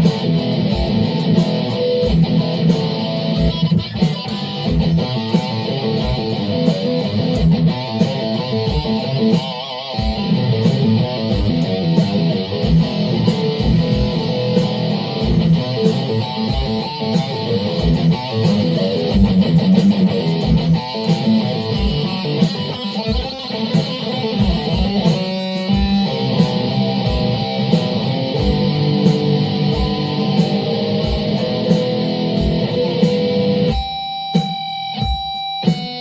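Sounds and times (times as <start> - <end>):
guitar solo: 0.0 - 36.0.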